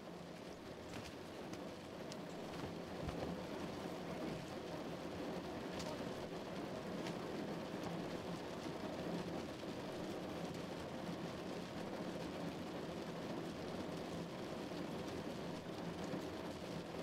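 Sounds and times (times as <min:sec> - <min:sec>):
rain on window glass: 0:00.0 - 0:17.0.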